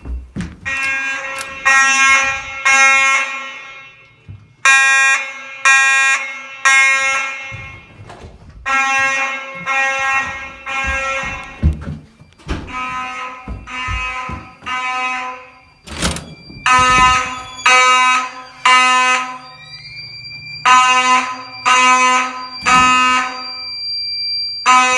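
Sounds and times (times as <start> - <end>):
fire alarm beeping: 0.0 - 24.9.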